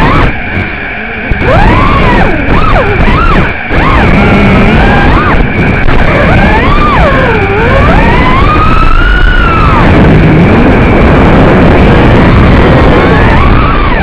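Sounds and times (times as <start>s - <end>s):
drone motors whining: 0.0s - 14.0s
rushing wind noise: 0.0s - 14.0s.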